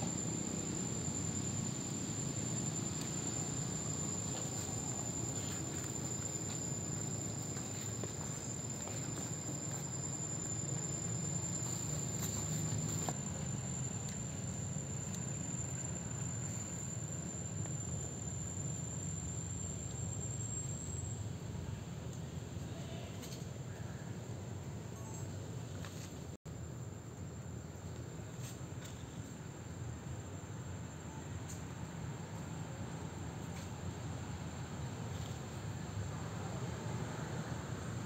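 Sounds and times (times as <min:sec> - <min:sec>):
insect whine: 0:00.0 - 0:22.0, 0:28.9 - 0:38.0.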